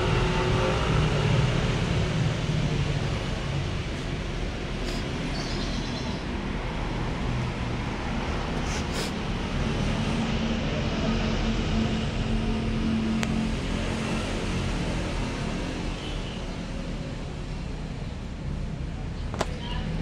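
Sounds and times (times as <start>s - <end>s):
background motor traffic rumble: 0.0s - 20.0s
engine hum: 0.0s - 20.0s.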